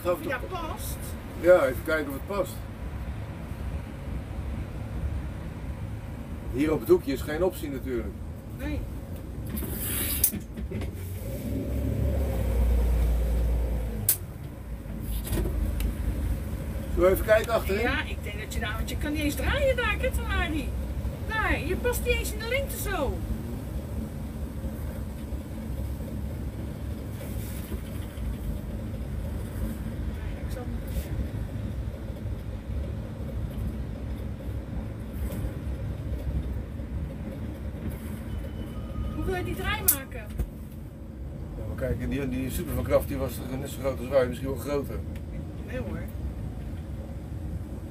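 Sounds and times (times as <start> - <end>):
boat engine low rumble: 0.0 - 47.9.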